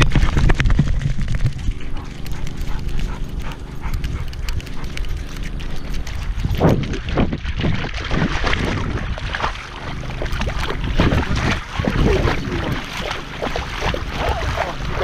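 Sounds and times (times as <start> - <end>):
microphone handling rumble: 0.0 - 15.0
dog wading splashing water: 1.7 - 15.0.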